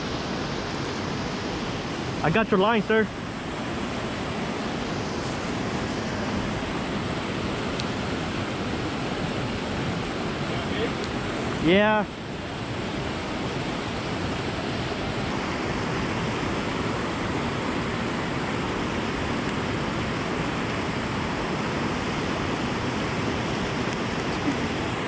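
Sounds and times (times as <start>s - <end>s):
waterfall rushing into pool: 0.0s - 25.0s.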